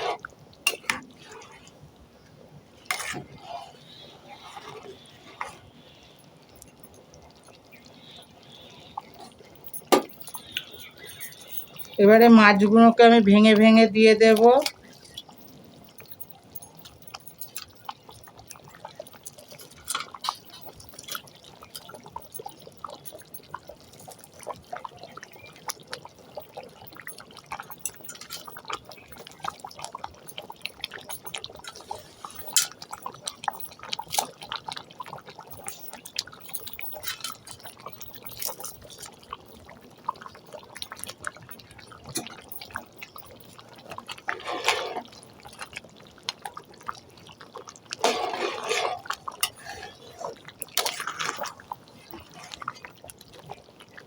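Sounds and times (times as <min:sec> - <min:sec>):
lentils simmering with bubbling pops: 0:00.0 - 0:54.0.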